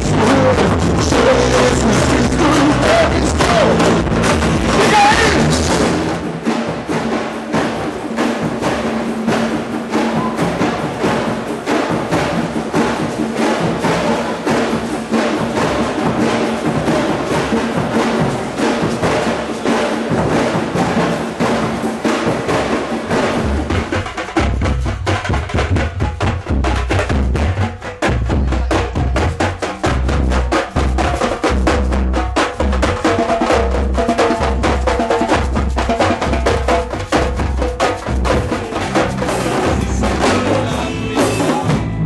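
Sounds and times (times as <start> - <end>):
fast percussion beat: 0.0 - 42.0.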